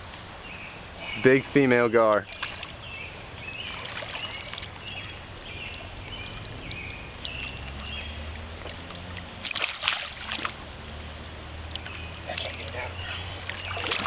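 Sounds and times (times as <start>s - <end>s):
fish thrashing and splashing in water: 2.2s - 14.0s.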